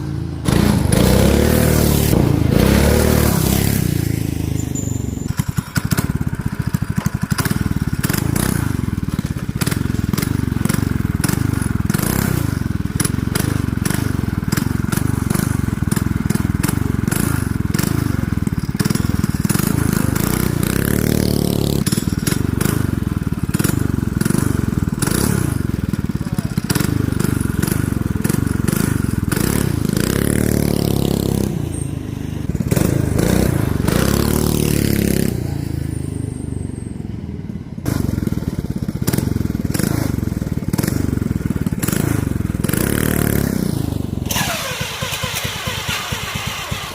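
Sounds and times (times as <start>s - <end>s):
minibike engine revving: 0.0s - 46.9s.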